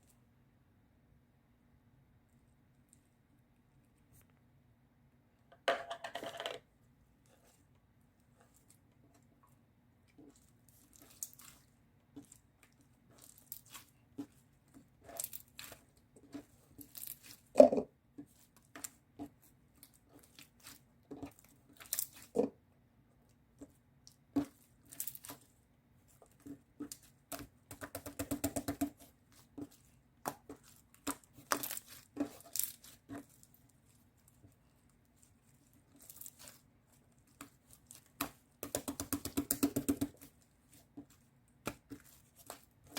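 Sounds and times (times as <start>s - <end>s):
objects being handled: 5.5s - 22.5s, 23.4s - 42.9s.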